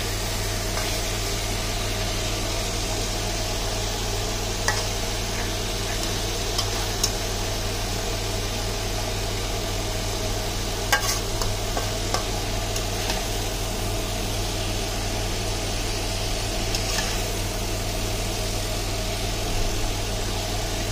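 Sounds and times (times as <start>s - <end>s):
food sizzling in a wok: 0.0s - 20.9s.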